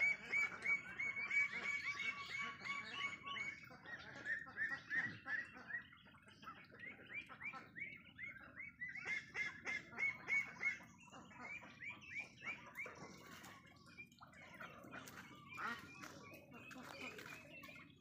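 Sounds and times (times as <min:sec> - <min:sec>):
poultry flock calling: 0:00.0 - 0:18.0.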